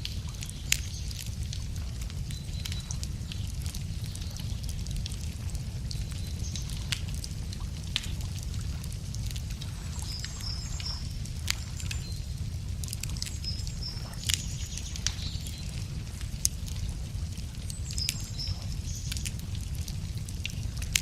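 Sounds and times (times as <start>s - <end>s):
small birds chirping: 0.0s - 19.9s
steady low rumble: 0.0s - 21.0s
wood fire crackling and popping: 0.0s - 21.0s.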